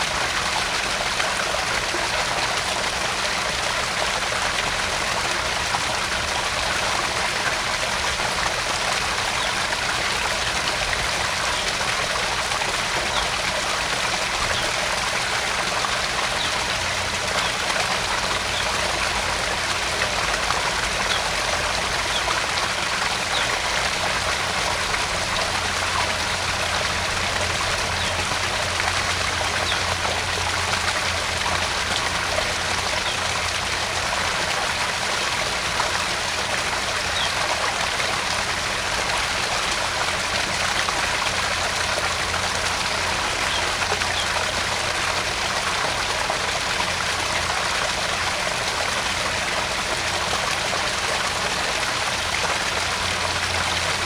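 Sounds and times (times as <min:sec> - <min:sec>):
water splashing into pond: 0:00.0 - 0:54.0.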